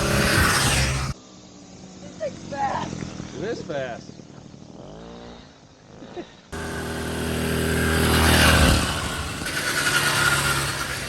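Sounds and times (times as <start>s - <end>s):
two-stroke engine passing by: 0.0s - 11.0s.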